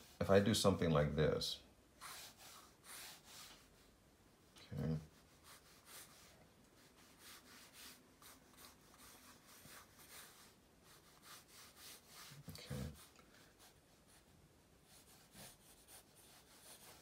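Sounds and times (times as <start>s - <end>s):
pencil sketching on paper: 2.0s - 3.8s, 5.0s - 17.0s.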